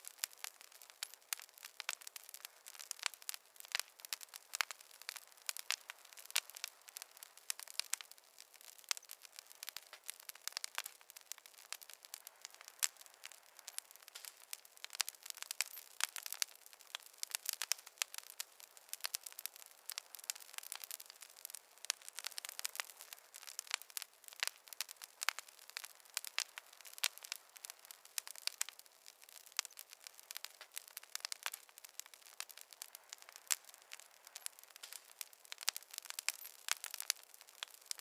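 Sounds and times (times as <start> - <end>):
fire crackling in a fireplace: 0.0 - 38.0.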